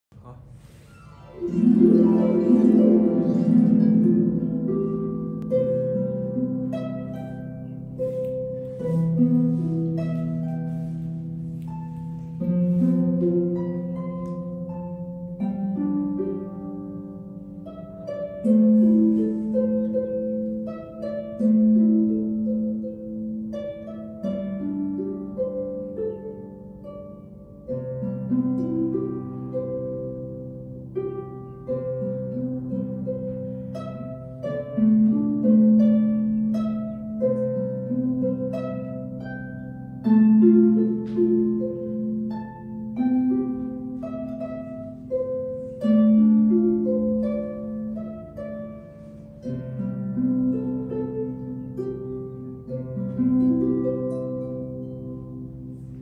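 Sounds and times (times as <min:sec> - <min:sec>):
harp melody: 0:00.2 - 0:56.0.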